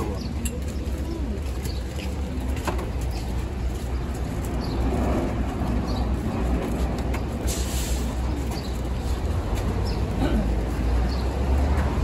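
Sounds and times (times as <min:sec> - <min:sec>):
birds chirping: 0:00.0 - 0:11.8
low traffic rumble: 0:00.0 - 0:12.0.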